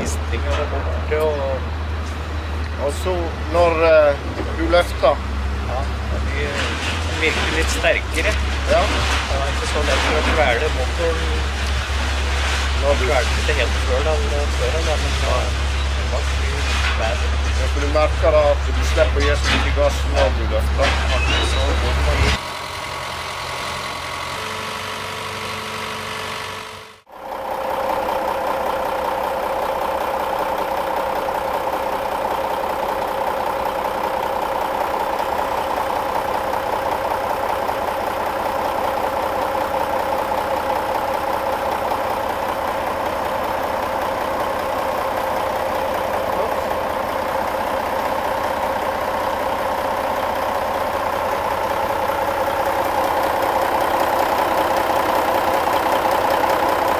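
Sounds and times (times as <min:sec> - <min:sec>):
truck diesel engine idling: 0:00.0 - 0:56.9.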